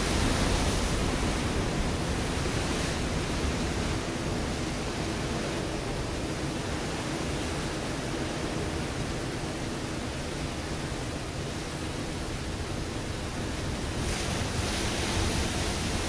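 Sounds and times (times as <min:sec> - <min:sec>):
surf breaking on rocky shore: 0:00.0 - 0:16.0.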